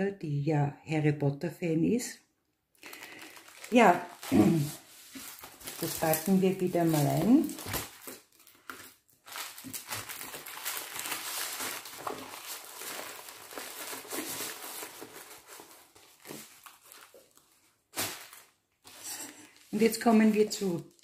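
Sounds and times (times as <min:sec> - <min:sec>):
plastic film and paper crinkling: 0:02.8 - 0:21.0.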